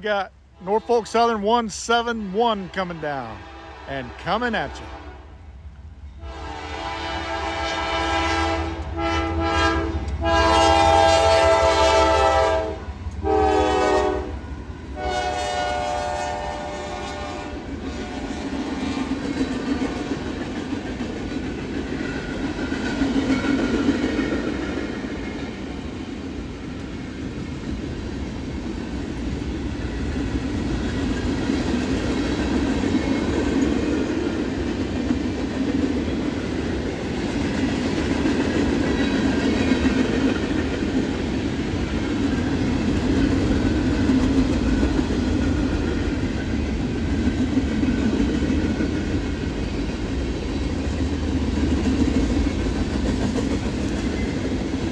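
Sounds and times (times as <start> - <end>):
freight train cars rolling on rails: 5.9 - 54.9.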